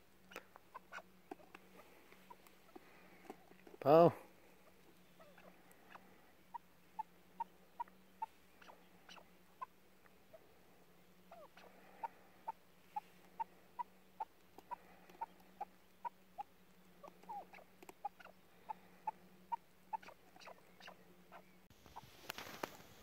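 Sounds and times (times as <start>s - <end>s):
partridge calling: 0.2s - 3.3s, 3.9s - 22.2s.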